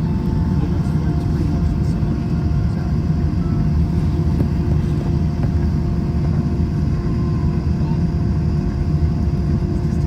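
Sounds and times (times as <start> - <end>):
faint steady hum: 0.0 - 10.0
jet engines idling rumble: 0.0 - 10.0.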